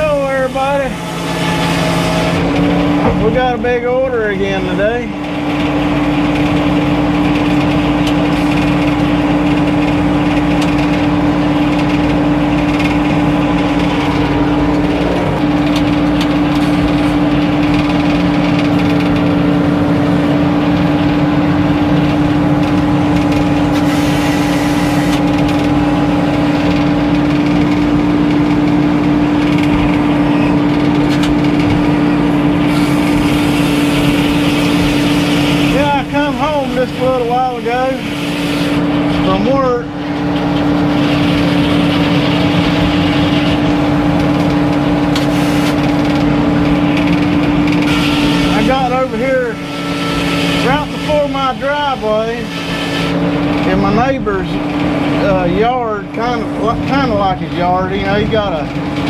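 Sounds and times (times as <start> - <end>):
sawmill machinery hum: 0.0 - 59.0.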